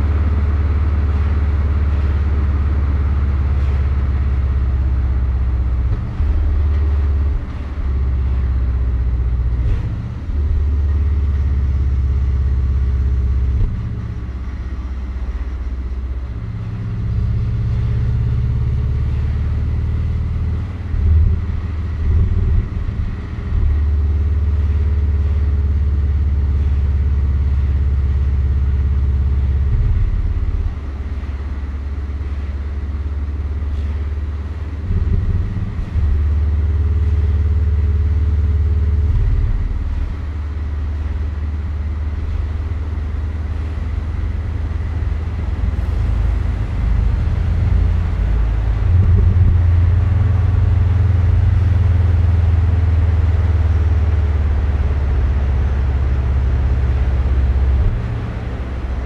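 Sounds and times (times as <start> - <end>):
car engine drone while driving: 0.0 - 59.0.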